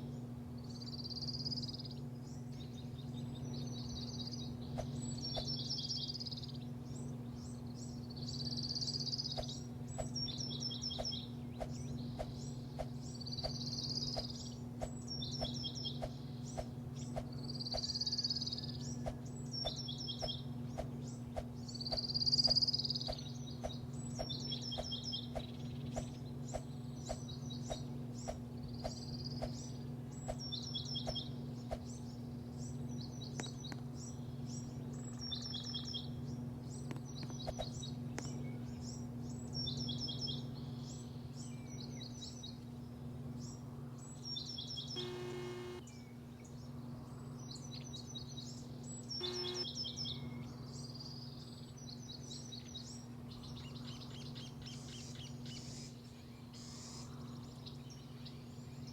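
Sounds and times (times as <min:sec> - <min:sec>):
small birds chirping: 0:00.0 - 0:42.7, 0:43.4 - 0:58.9
low machine hum: 0:00.0 - 0:58.9.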